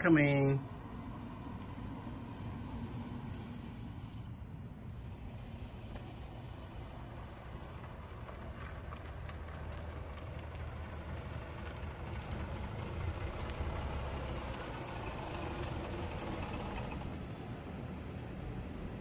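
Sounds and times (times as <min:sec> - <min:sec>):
rotary engine running at low speed: 0:00.6 - 0:17.6.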